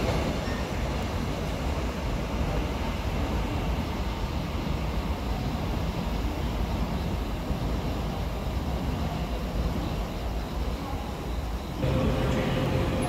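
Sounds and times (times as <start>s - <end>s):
train rumbling away: 0.0s - 13.0s.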